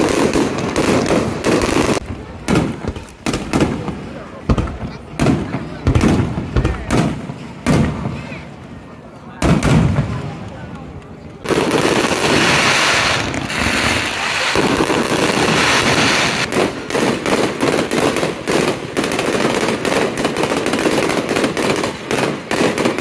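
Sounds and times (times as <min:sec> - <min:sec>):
fireworks crackling: 0:00.0 - 0:23.0
fireworks popping: 0:00.0 - 0:23.0.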